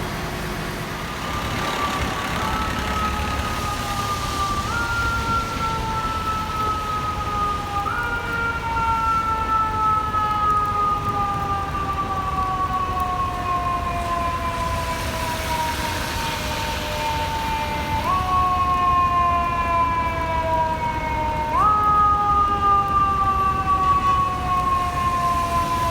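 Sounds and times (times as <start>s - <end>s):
low engine and traffic rumble: 0.0s - 25.9s
fire engine siren two-tone: 0.1s - 25.9s.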